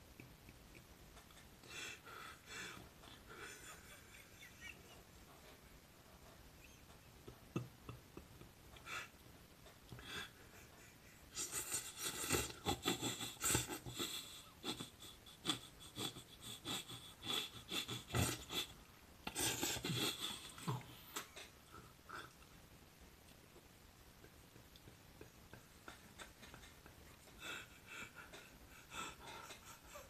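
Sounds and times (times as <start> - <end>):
man laughing: 0.1 - 5.1, 6.6 - 9.1, 10.0 - 22.4, 24.2 - 30.0.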